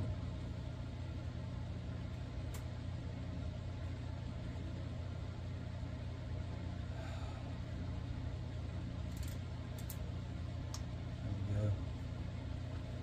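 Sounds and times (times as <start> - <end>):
low hum with faint buzz: 0.0 - 13.0.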